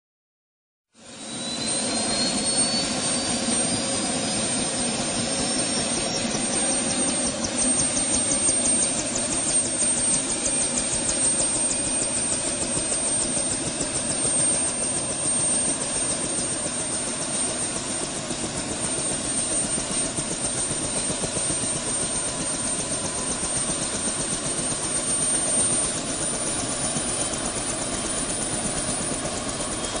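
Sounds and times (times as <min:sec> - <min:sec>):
helicopter engine whine: 0:01.0 - 0:30.0
helicopter rotor beat: 0:01.0 - 0:30.0.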